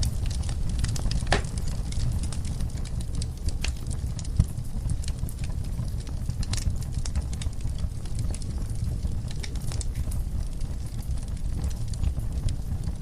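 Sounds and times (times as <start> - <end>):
low rumble of flame: 0.0 - 13.0
wood fire crackling and popping: 0.0 - 13.0.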